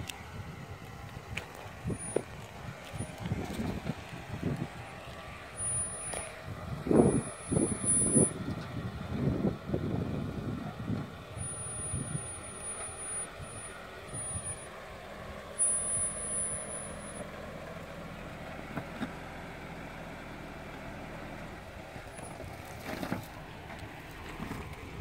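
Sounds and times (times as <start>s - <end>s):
engine running at low revs: 0.0s - 25.0s.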